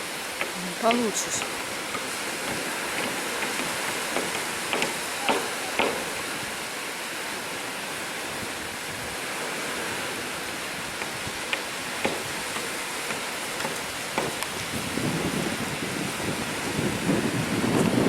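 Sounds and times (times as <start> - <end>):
surf washing on shore: 0.0 - 18.0.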